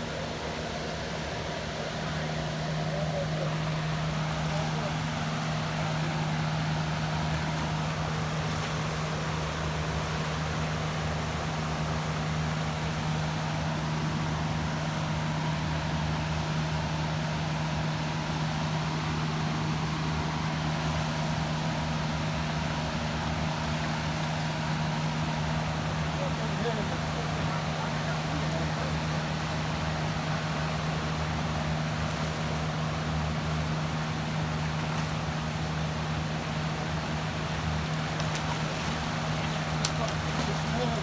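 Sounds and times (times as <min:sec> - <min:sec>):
constant low hum: 0:00.0 - 0:41.0
river water rushing: 0:00.0 - 0:41.0.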